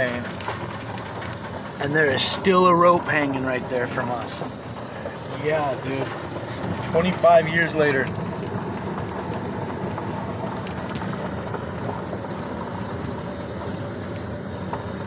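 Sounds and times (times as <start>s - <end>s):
car engine running: 0.0s - 15.0s
tyres rolling on gravel: 0.0s - 15.0s.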